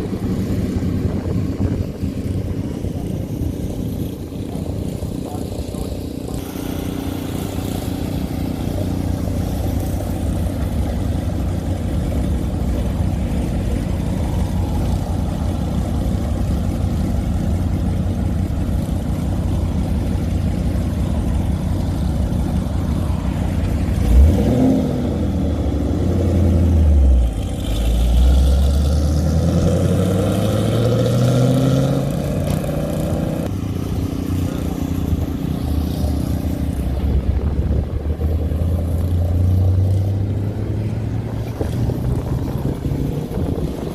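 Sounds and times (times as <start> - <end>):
car engine revving and accelerating: 0.0 - 43.9
car engines idling: 0.0 - 43.9.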